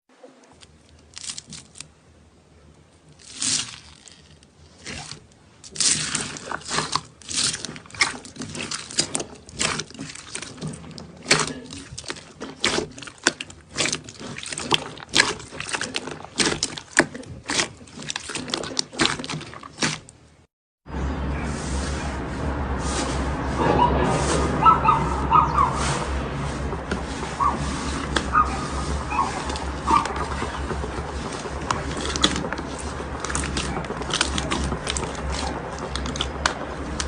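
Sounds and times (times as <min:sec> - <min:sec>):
slime crackling and squelching: 0:00.6 - 0:01.8, 0:03.1 - 0:20.2, 0:24.2 - 0:37.0.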